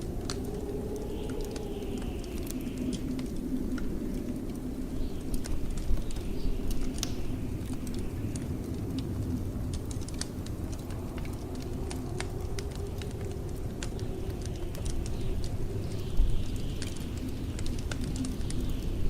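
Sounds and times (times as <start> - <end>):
blizzard wind rumbling: 0.0 - 19.0
wood fire crackling: 0.0 - 19.0.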